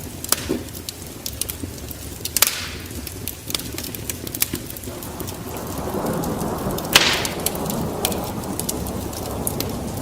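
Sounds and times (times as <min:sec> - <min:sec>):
rain hissing: 0:00.0 - 0:10.0
wood fire crackling: 0:00.0 - 0:10.0.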